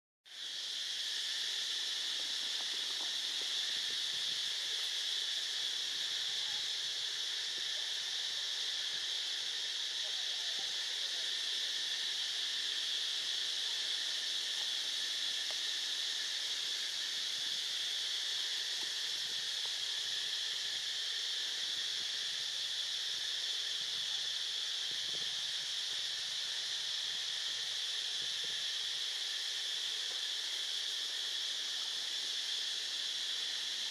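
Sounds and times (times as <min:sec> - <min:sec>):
insects droning: 0:00.3 - 0:33.9.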